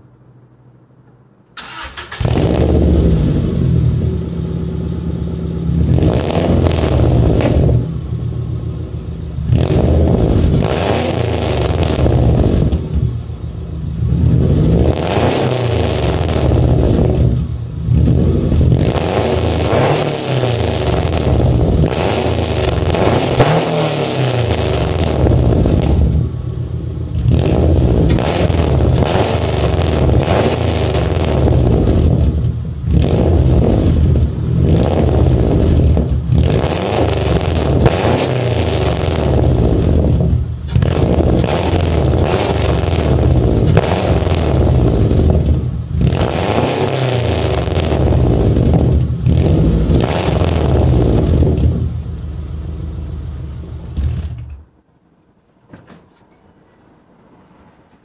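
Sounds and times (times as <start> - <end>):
car engine idling and revving: 1.0 - 54.8
car engine starting: 1.5 - 54.8.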